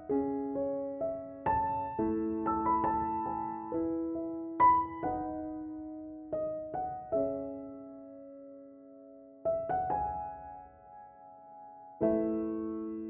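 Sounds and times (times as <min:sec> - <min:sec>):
gentle solo piano music: 0:00.0 - 0:13.0.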